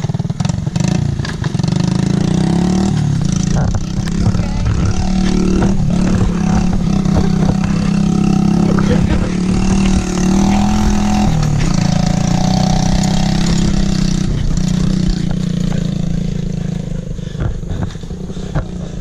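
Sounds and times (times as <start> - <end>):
mini bike engine running: 0.0 - 19.0.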